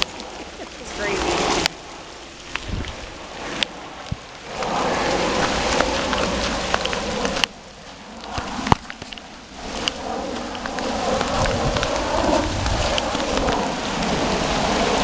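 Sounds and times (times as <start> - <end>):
hail pelting down: 0.0 - 15.0.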